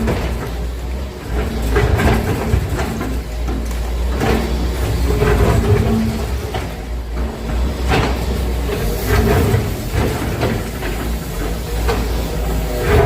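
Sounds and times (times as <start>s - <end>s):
demolition debris crashing: 0.0s - 13.0s
excavator diesel engine running: 0.0s - 13.0s
hydraulic whine: 0.0s - 13.0s.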